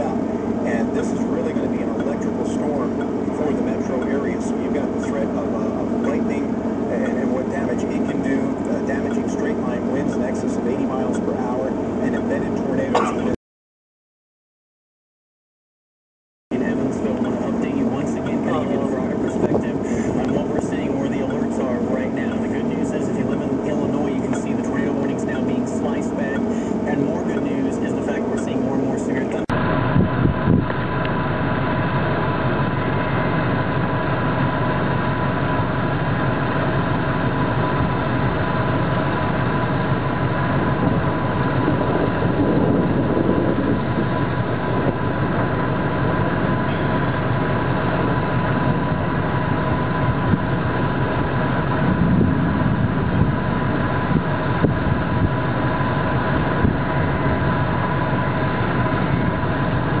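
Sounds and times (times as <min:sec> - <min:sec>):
car engine idling: 0:00.0 - 0:13.4, 0:16.5 - 0:30.0, 0:30.7 - 1:00.0.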